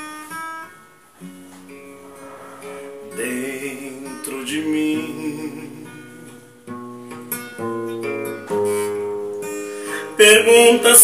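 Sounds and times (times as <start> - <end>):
classical guitar strummed chords: 0.0 - 11.0.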